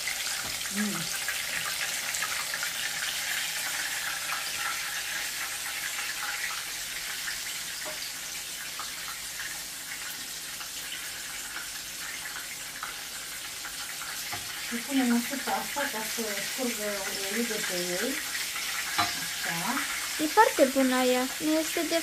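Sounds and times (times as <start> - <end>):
meatballs sizzling in oil: 0.0 - 22.0.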